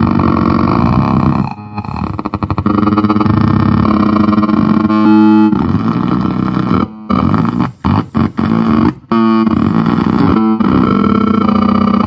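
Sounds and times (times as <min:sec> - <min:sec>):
buzzy pitched drone: 0:00.0 - 0:12.0.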